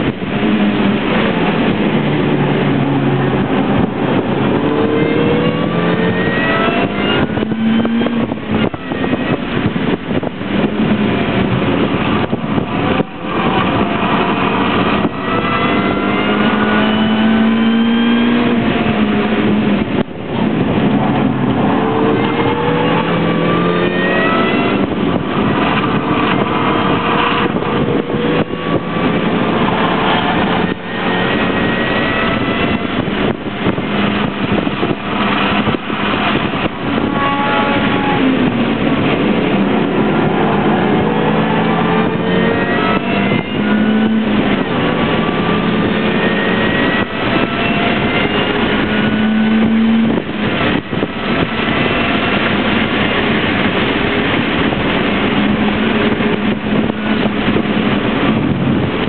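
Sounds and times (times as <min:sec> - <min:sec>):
car engine under hard driving: 0:00.0 - 0:59.0
road and wind noise: 0:00.0 - 0:59.0.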